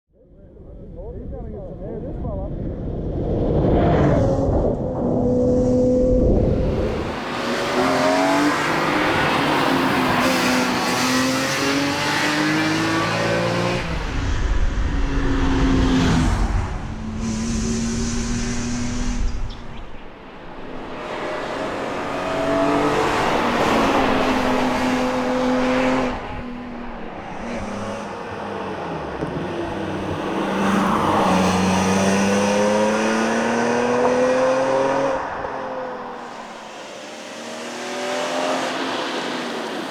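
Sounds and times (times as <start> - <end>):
car engine revving hard: 5.3 - 19.6, 20.6 - 39.9.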